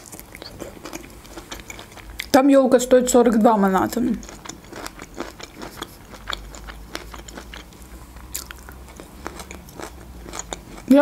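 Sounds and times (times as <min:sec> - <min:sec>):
chewing food: 0:00.0 - 0:02.4, 0:03.8 - 0:11.0.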